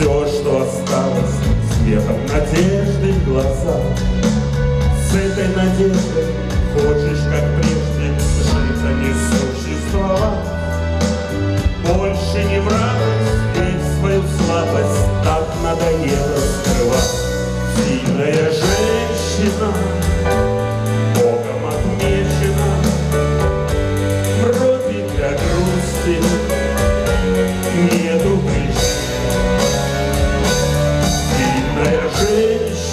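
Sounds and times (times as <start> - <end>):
man singing: 0.0 - 10.8, 11.5 - 32.9
bass guitar low notes: 0.0 - 32.9.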